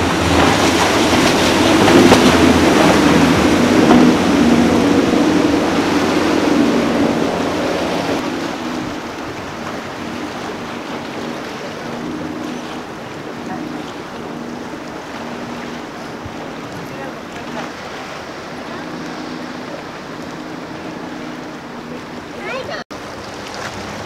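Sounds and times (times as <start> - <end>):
hull spray and wake hissing: 0.0 - 24.0
outboard motors droning: 0.0 - 24.0.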